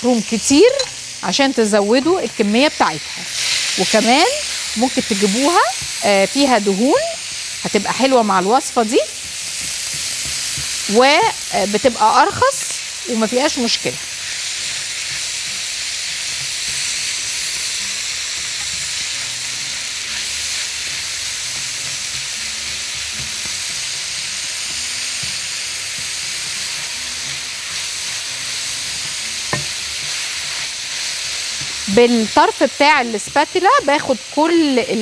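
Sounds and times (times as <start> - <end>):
meat sizzling in a pan: 0.0 - 35.0.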